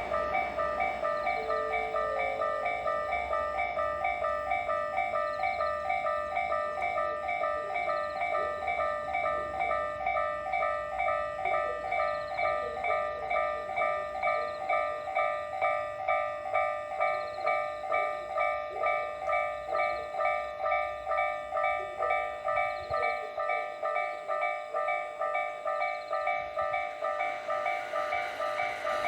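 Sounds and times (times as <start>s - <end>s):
level crossing warning bell: 0.0s - 29.0s
train running noise: 0.0s - 29.0s.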